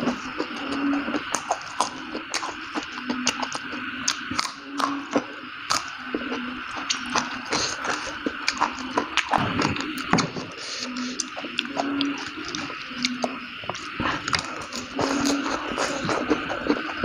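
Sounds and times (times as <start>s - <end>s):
man chewing noisily: 0.0s - 17.0s.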